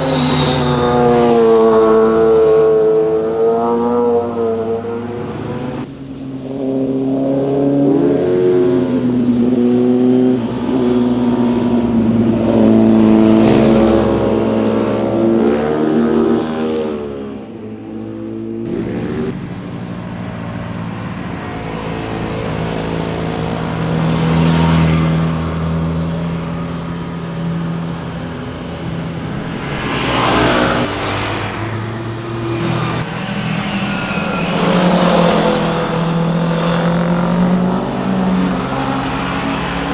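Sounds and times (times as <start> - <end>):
motorcycle engines revving past: 0.0 - 39.9.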